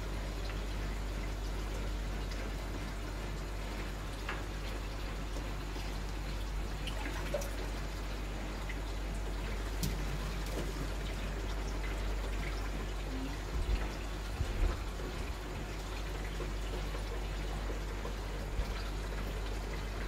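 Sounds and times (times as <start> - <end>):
aquarium water trickling and bubbling: 0.0 - 20.0.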